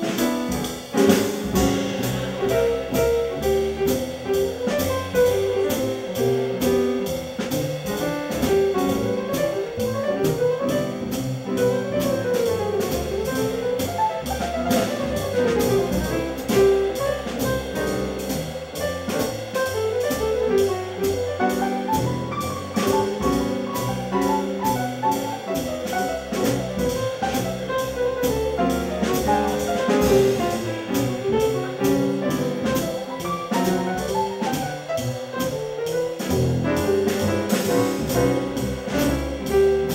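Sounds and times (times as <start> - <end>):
drums with cymbal beat: 0.0 - 39.9
piano: 0.0 - 39.9
upright double bass: 0.0 - 39.9.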